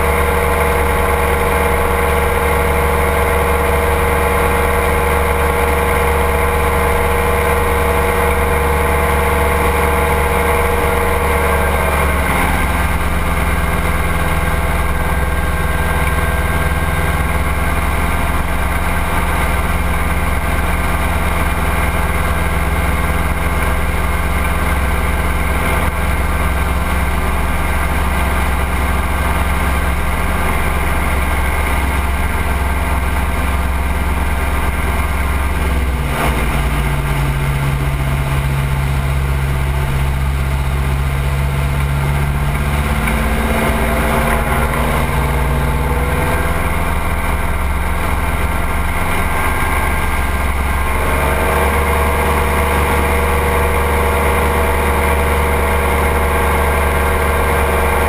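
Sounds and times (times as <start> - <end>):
engine and propeller droning: 0.0 - 58.0.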